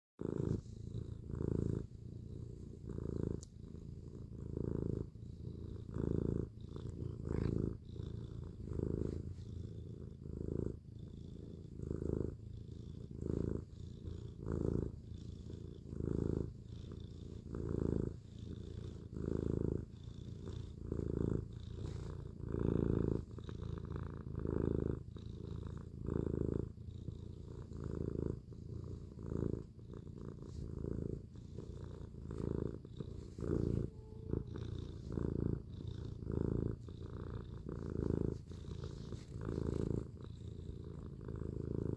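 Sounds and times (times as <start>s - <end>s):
cat purring: 0.2s - 41.9s.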